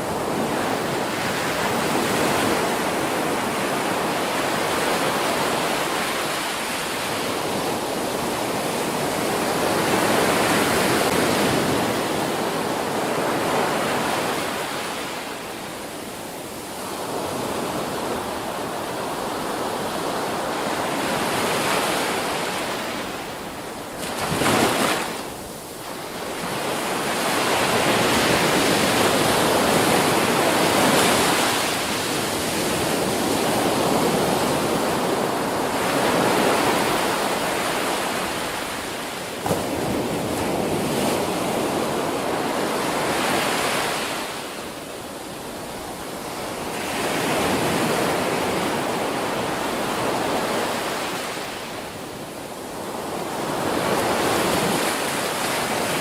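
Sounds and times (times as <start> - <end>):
ocean waves breaking on a beach: 0.0 - 56.0.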